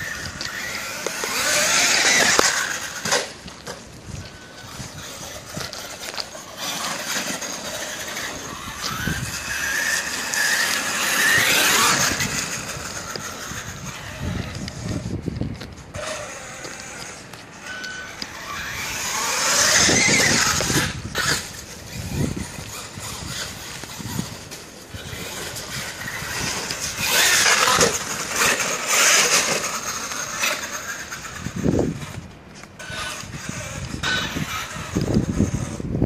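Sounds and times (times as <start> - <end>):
electric motor whining: 0.0 - 36.0.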